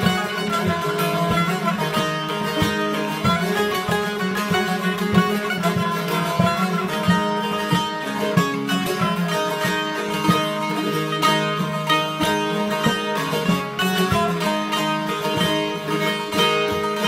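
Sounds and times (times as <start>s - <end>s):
long-necked lutes plucked: 0.0s - 17.0s.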